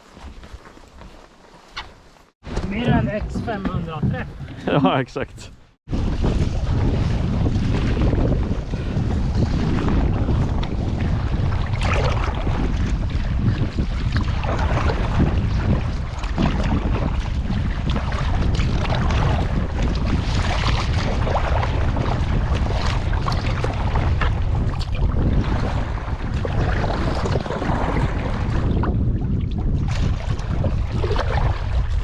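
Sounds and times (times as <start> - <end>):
paddle splashing water: 0.0 - 5.0, 5.8 - 32.0
wind buffeting microphone: 2.4 - 32.0.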